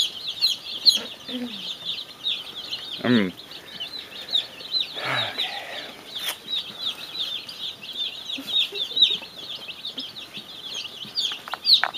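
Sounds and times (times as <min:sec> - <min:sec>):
chicks peeping: 0:00.0 - 0:11.9.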